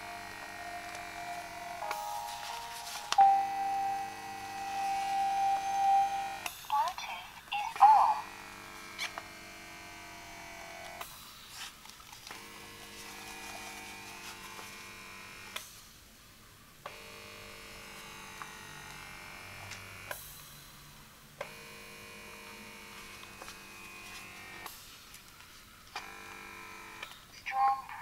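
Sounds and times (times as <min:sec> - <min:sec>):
small motor humming: 0:00.0 - 0:06.7, 0:07.8 - 0:15.8, 0:16.9 - 0:20.4, 0:21.4 - 0:25.0, 0:25.9 - 0:27.2.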